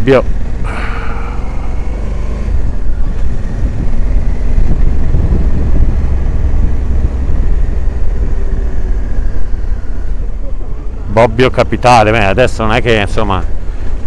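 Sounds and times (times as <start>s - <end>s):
motorcycle engine and tyre noise: 0.0s - 14.0s
wind rumble on microphone: 0.2s - 14.0s
faint engine tones: 0.4s - 14.0s.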